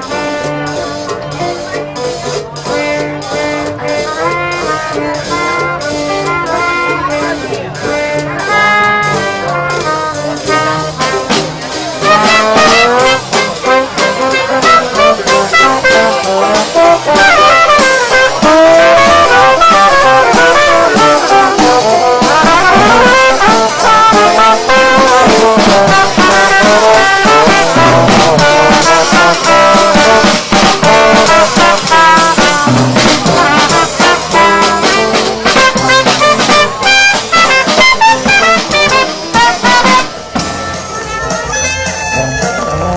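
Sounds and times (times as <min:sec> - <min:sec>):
drum kit with busy cymbals: 0:00.0 - 0:42.9
trombone: 0:00.0 - 0:42.9
trumpet: 0:00.0 - 0:42.9.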